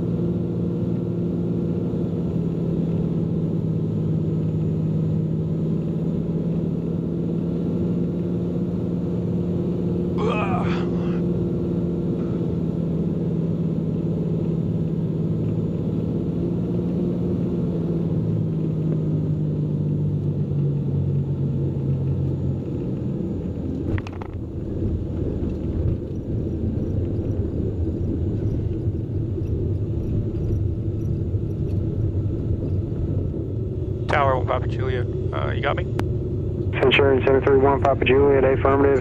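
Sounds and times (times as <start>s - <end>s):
aircraft engine and propeller droning: 0.0s - 39.0s.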